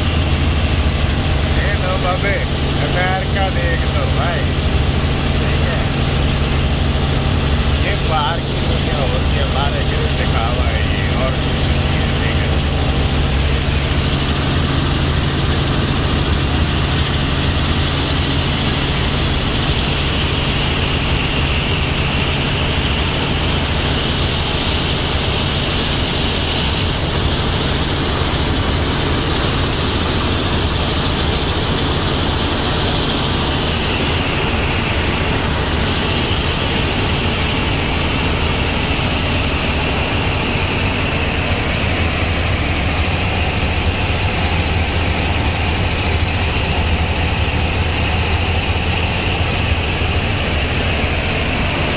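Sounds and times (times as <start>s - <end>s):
helicopter cabin drone: 0.0s - 51.9s.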